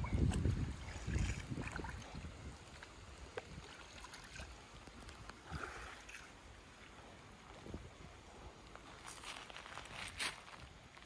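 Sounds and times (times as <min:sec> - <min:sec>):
river water sloshing: 0:00.0 - 0:10.6.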